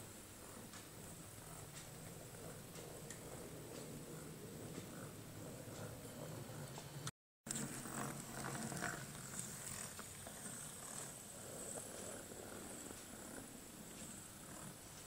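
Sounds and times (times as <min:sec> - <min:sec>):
model train motor purring: 0:00.0 - 0:15.0.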